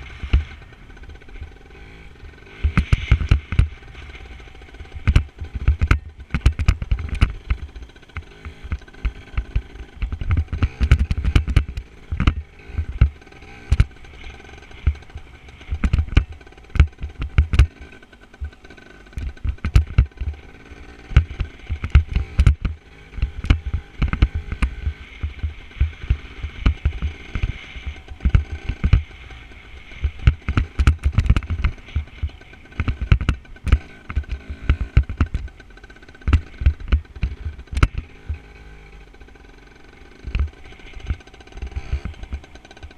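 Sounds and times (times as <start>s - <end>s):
dirt bike engine: 0.0s - 42.9s
knocks and clatter: 2.6s - 38.5s.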